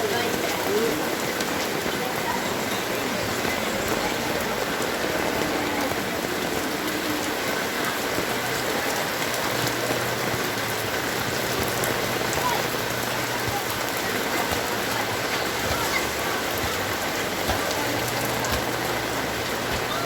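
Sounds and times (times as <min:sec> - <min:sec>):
heavy rain hissing: 0:00.0 - 0:20.0
raindrop ticks: 0:00.0 - 0:20.0.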